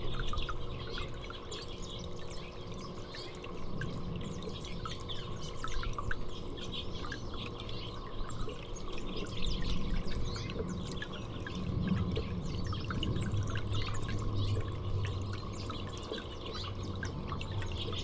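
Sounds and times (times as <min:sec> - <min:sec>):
small birds chirping: 0:00.0 - 0:11.6, 0:12.2 - 0:18.0
low background hum: 0:00.0 - 0:18.0.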